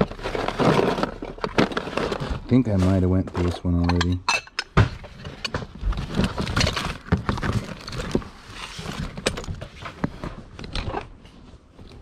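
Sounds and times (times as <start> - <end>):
hands rummaging through plastic tote: 0.0 - 4.2, 5.1 - 12.0
rustling and clicks of items: 0.0 - 12.0.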